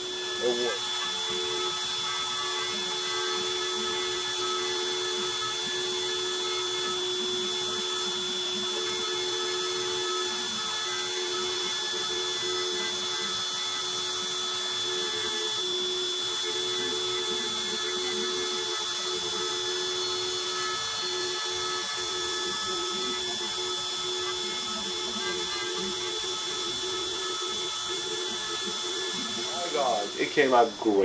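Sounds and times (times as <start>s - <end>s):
router spindle whine: 0.0s - 31.0s.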